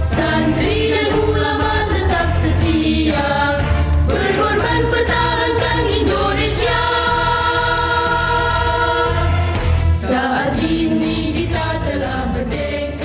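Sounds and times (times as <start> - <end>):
female choir singing: 0.0 - 13.0.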